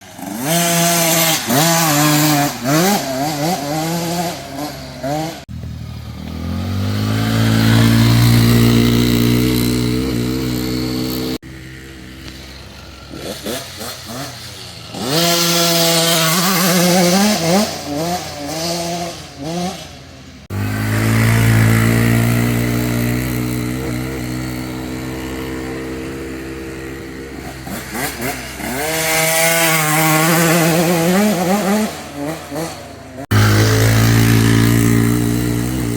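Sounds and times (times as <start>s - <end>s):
dirt bike engine accelerating: 0.0s - 35.9s.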